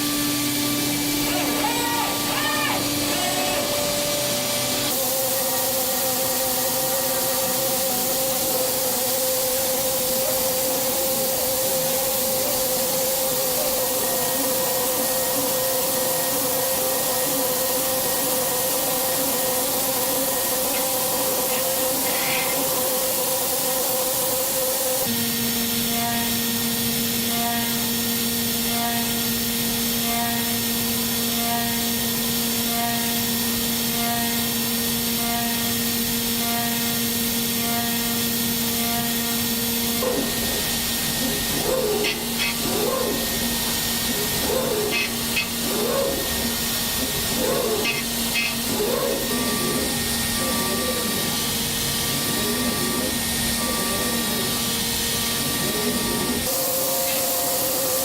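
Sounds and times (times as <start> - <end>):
machine cutting whine: 0.0 - 58.0.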